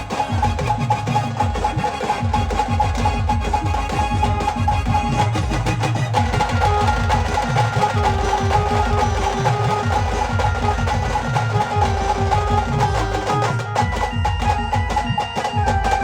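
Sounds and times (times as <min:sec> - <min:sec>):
drum beat: 0:00.0 - 0:16.0
live band playing instrumental: 0:00.0 - 0:16.0.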